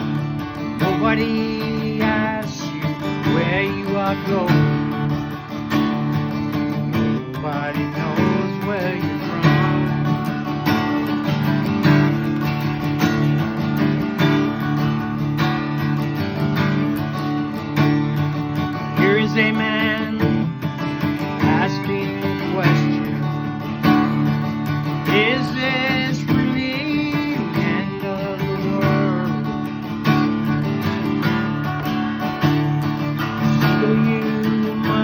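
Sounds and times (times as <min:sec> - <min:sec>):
acoustic guitar strummed and picked: 0:00.0 - 0:35.0
wavering high guitar notes: 0:00.0 - 0:35.0.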